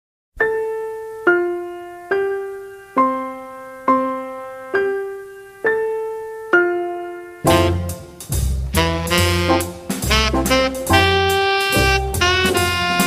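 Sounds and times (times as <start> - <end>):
keyboard playing slow melody: 0.4 - 13.0.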